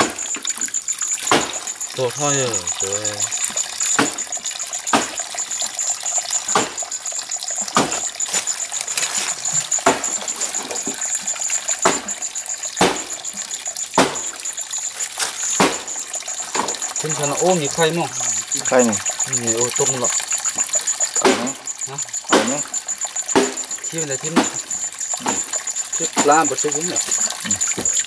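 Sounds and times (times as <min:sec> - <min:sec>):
water splashing: 0:00.0 - 0:28.0
water trickling onto leaves: 0:00.0 - 0:28.0.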